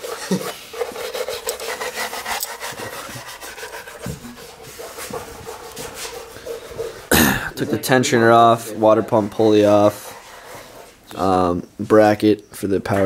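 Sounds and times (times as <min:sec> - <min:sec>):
hand tools rasping and scraping: 0:00.0 - 0:11.5.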